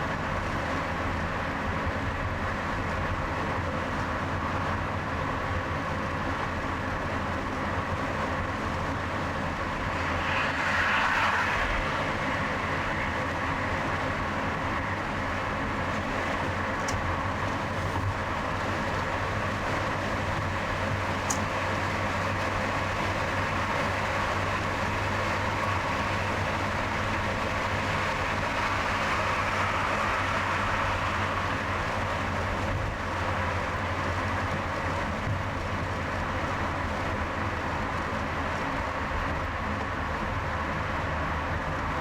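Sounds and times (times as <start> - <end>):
car driving on highway: 0.0 - 42.0.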